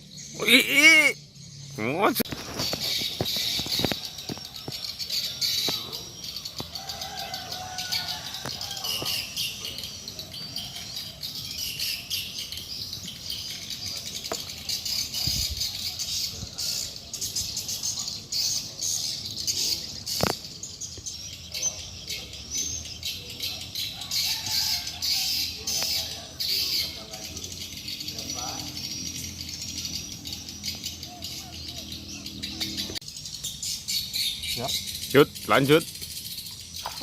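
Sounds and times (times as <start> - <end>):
birds chirping and singing: 0.0 - 37.0.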